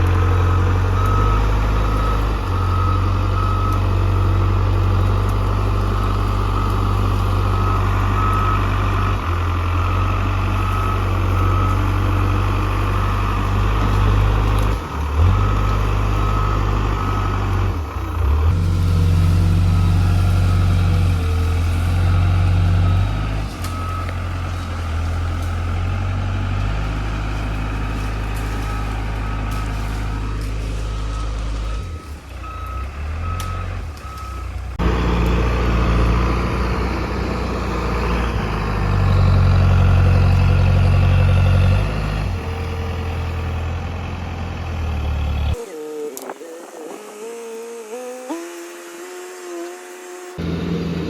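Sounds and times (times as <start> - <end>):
heavy machine engine working: 0.0 - 46.3, 50.4 - 51.0.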